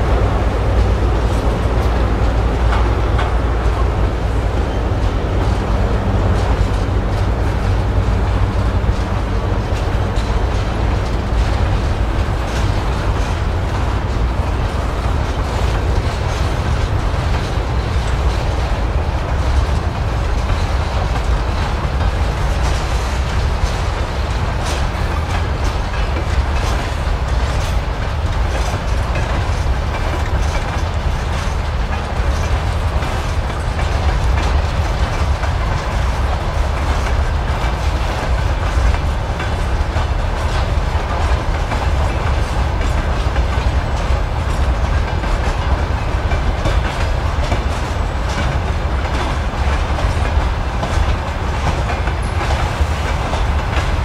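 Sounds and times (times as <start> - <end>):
freight train rumble: 0.0 - 54.0
train wheels clicking over rail joints: 0.0 - 54.0.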